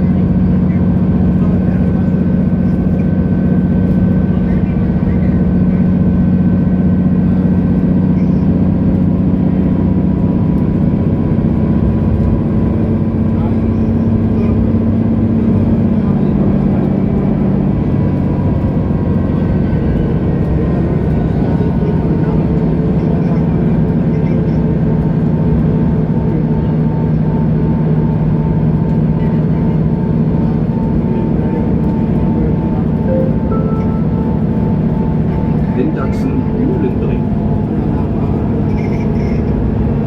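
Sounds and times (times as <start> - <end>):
bus engine drone: 0.0 - 40.0.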